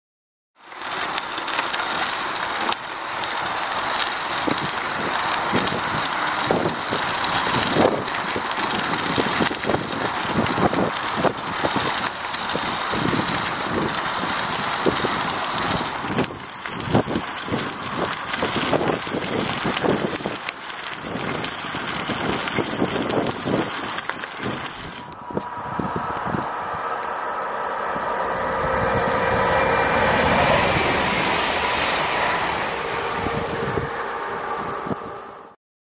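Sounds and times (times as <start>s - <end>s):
bicycle tyres rolling on gravel: 0.6s - 35.6s.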